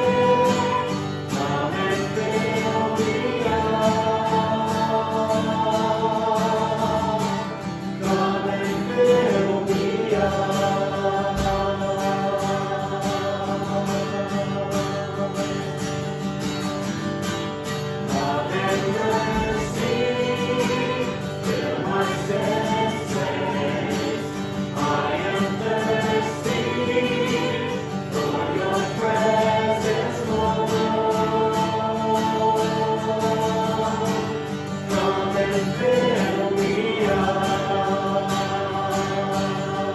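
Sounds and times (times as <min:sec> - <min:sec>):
band playing slow worship song: 0:00.0 - 0:39.9
group of voices singing: 0:00.0 - 0:39.9.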